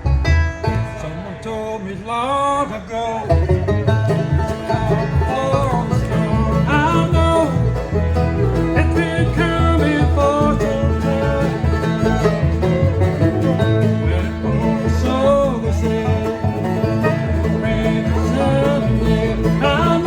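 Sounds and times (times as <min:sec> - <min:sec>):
bluegrass band playing: 0:00.0 - 0:20.0.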